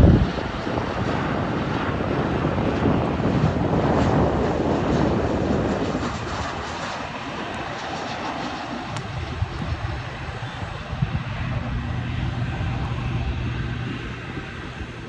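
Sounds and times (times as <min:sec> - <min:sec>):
jet airliner engines passing: 0:00.0 - 0:15.0.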